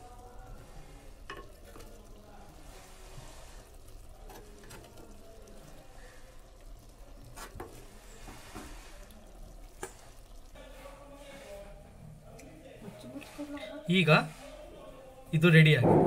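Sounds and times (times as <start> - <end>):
faint sizzle of gravy: 0.0 - 15.8.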